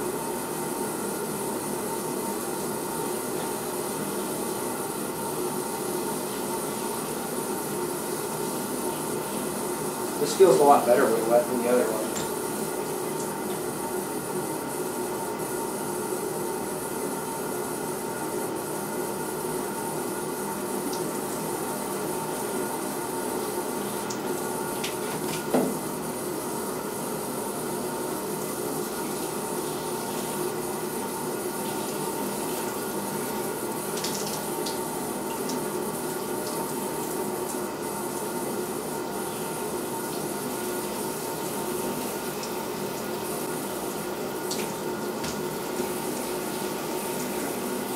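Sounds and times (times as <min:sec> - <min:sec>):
shower spray running: 0:00.0 - 0:47.9.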